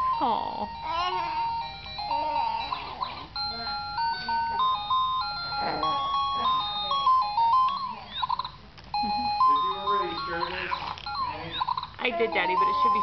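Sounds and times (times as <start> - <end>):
toy electronic beeping melody: 0.0 - 13.0.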